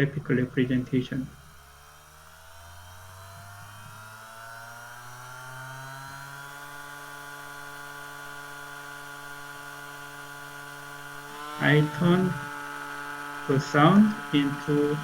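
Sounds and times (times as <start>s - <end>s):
compressor motor whine: 0.0s - 15.0s.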